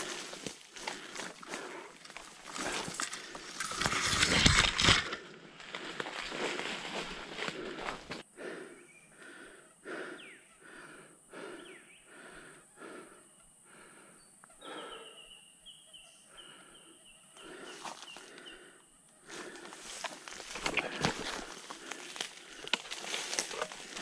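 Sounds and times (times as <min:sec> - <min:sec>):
person breathing heavily: 0:00.0 - 0:15.5, 0:16.2 - 0:24.0.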